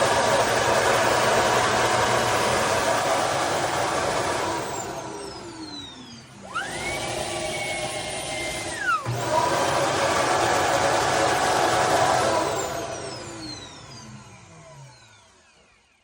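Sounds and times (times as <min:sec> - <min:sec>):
vacuum cleaner suction noise: 0:00.0 - 0:15.6
motor whine: 0:00.0 - 0:16.0.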